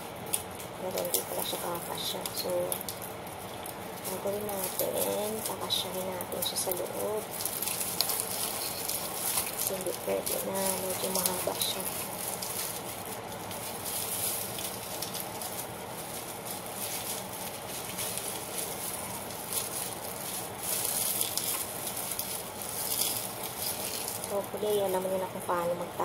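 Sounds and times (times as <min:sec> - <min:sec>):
lemongrass stalks rustling: 0:00.0 - 0:26.0.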